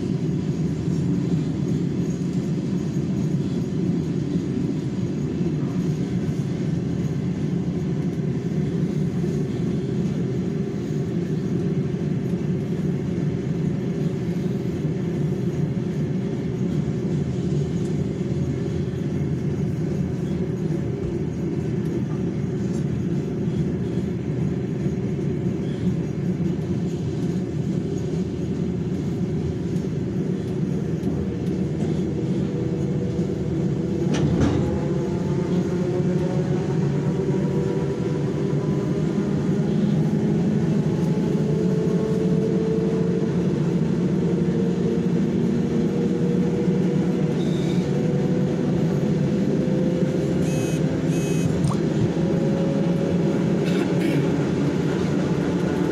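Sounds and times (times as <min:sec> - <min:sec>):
rising train whine: 0:00.0 - 0:55.9
train rumble: 0:00.0 - 0:55.9.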